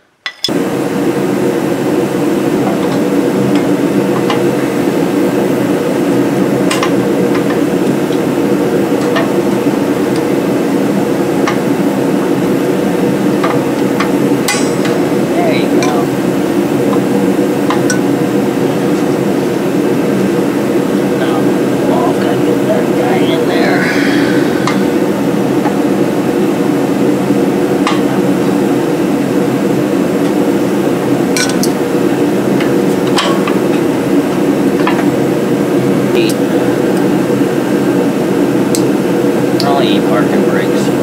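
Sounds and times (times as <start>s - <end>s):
loud droning noise: 0.0s - 41.0s.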